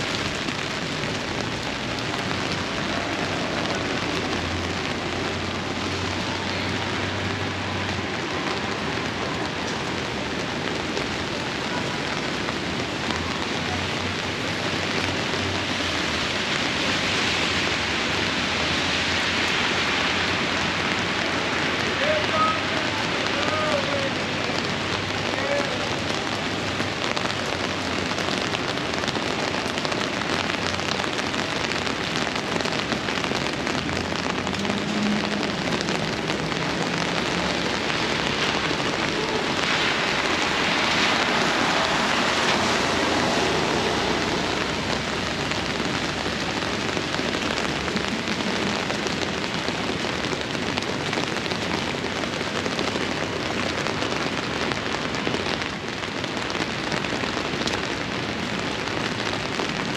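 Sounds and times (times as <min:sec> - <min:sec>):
rain downpour: 0:00.0 - 0:59.9.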